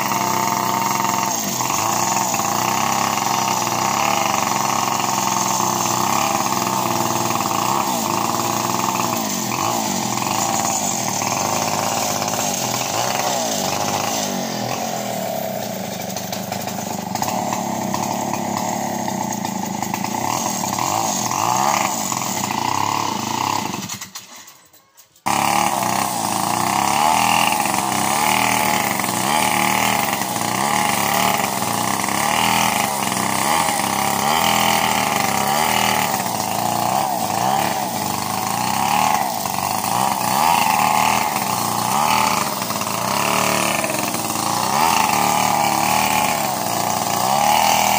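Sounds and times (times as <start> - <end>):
chainsaw engine revving: 0.0 - 47.9.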